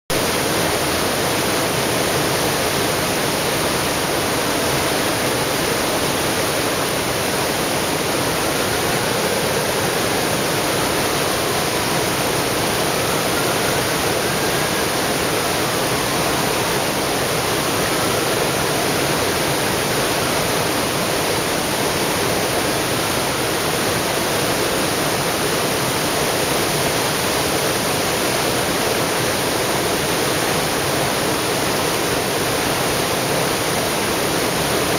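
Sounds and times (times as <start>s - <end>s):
water rushing over dam: 0.1s - 34.9s.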